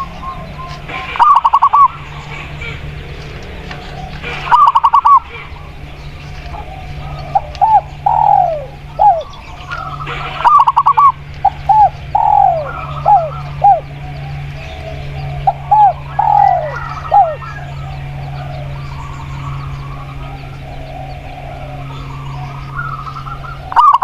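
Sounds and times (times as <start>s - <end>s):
doves cooing: 0.0s - 24.0s
steady low hum: 0.0s - 24.0s.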